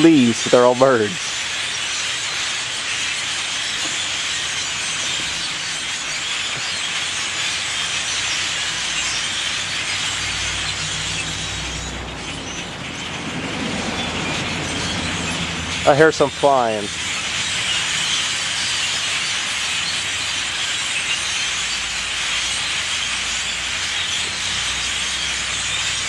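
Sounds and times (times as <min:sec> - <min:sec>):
flock of birds calling: 0:00.0 - 0:26.0.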